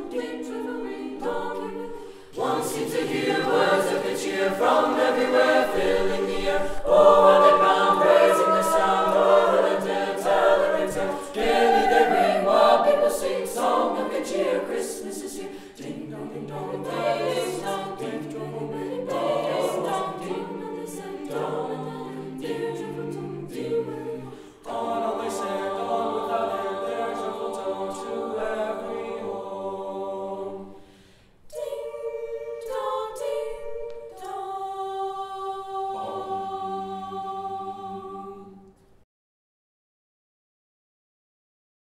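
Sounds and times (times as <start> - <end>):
a cappella group singing in harmony: 0.0 - 39.0.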